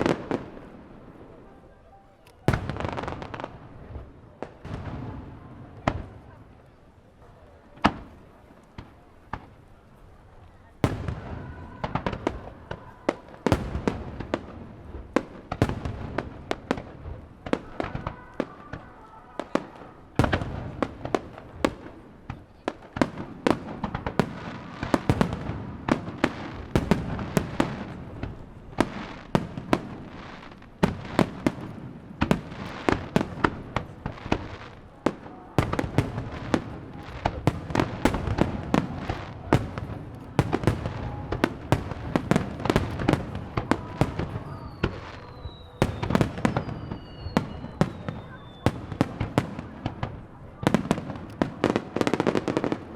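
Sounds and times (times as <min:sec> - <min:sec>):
fireworks crackling: 0:00.0 - 0:52.9.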